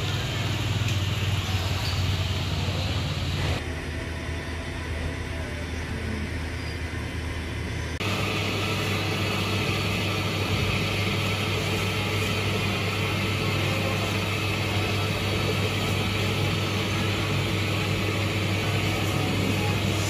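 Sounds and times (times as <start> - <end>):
machinery electric hum: 0.0 - 20.0.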